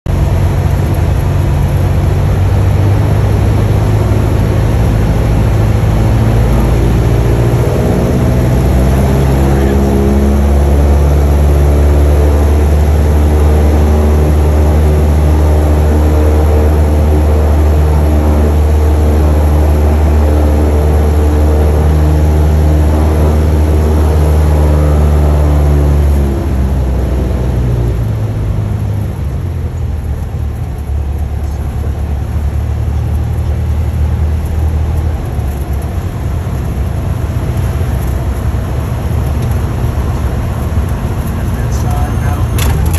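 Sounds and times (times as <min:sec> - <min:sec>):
airplane engine and propeller: 0:00.1 - 0:42.9.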